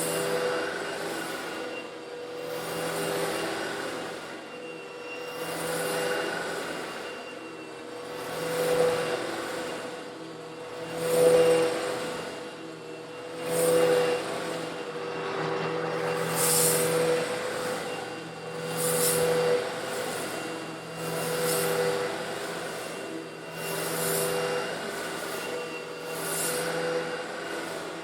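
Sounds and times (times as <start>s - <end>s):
vacuum cleaner motor hum: 0.0s - 28.0s.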